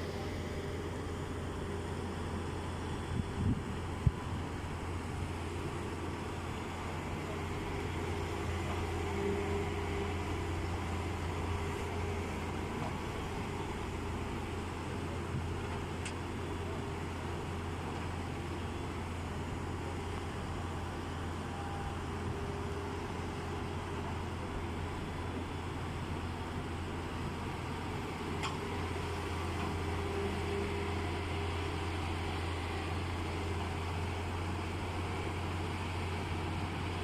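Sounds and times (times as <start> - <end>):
excavator diesel engine droning: 0.0 - 37.0.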